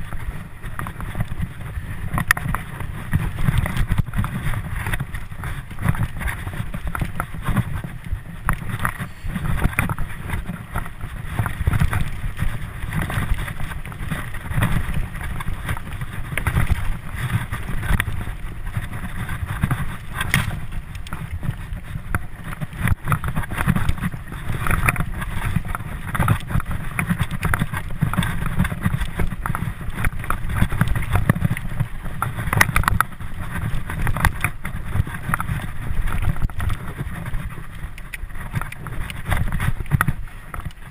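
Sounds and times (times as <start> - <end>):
bike knocking and rattling: 0.0 - 40.9
bike tyres on dirt: 0.0 - 40.9
wind on microphone: 0.0 - 40.9.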